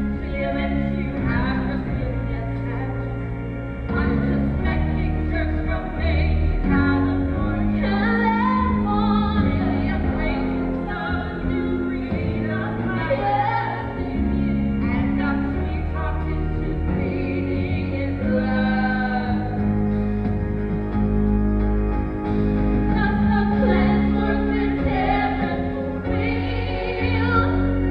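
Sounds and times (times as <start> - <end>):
women singing: 0.0 - 3.1, 3.9 - 19.7, 22.9 - 27.9
band playing: 0.0 - 27.9
held bass notes: 0.0 - 27.9.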